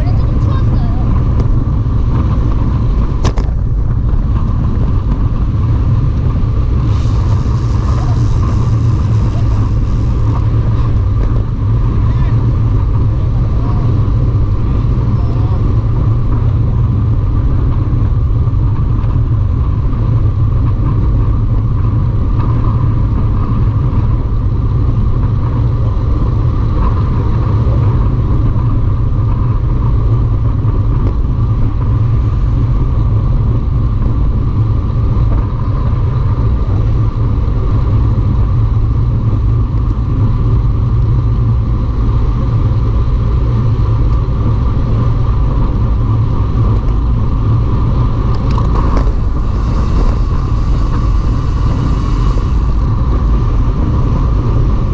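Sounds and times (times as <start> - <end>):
wind and road noise rumble: 0.0 - 54.9.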